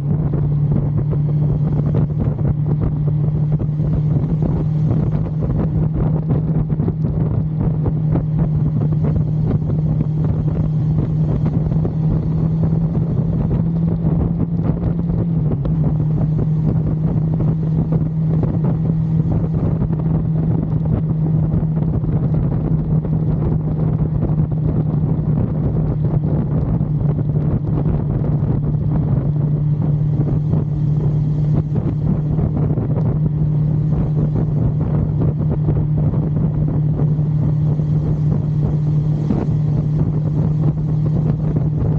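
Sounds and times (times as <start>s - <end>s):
motorcycle engine cruising: 0.0s - 41.9s
wind rushing over microphone: 0.0s - 41.9s.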